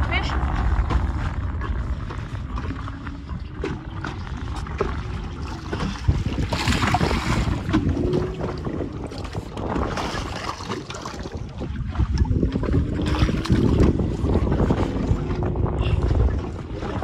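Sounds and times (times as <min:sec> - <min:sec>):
boat motor running: 0:00.0 - 0:17.0
water washing against hull: 0:00.0 - 0:17.0
wind rumbling on microphone: 0:00.0 - 0:17.0.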